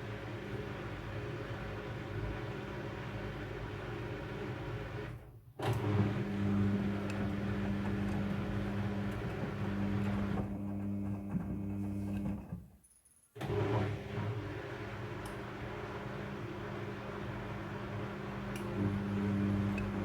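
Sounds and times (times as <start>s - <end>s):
washing machine motor hum: 0.0s - 12.6s, 13.4s - 20.0s.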